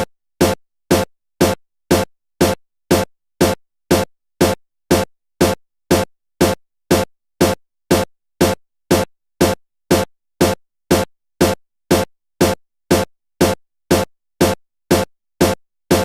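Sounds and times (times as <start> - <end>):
electronic beat hits: 0.0 - 16.0.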